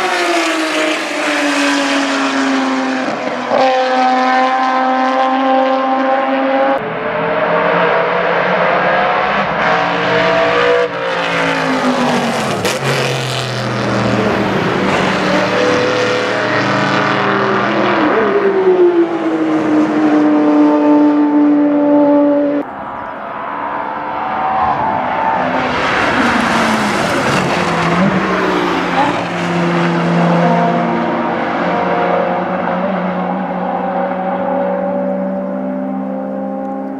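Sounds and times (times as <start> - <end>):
sports cars revving past: 0.0 - 36.9.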